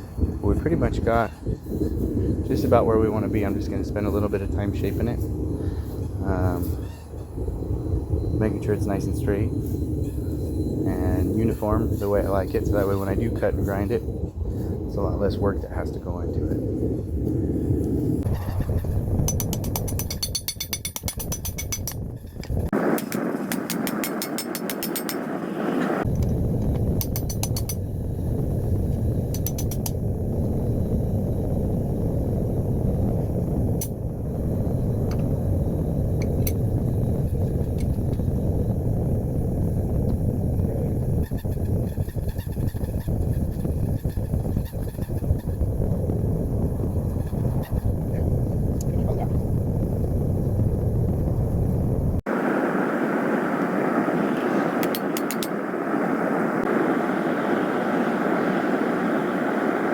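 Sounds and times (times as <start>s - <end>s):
propane forge roaring: 0.0s - 59.9s.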